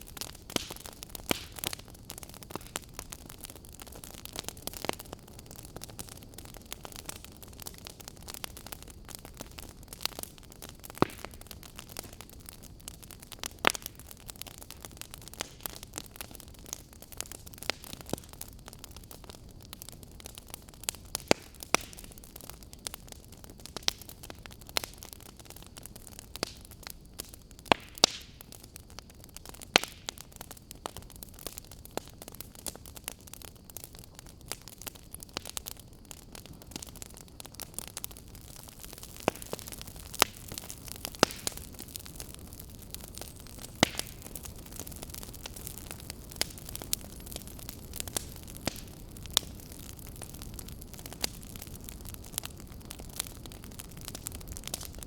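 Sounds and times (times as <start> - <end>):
fire crackling in fireplace: 0.0 - 55.0.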